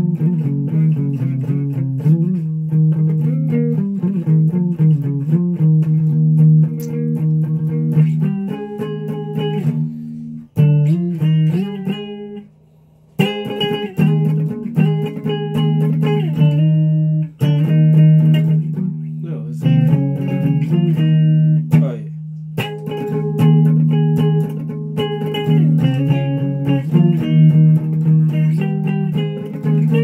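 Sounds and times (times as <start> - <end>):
clean electric guitar: 0.0 - 30.0.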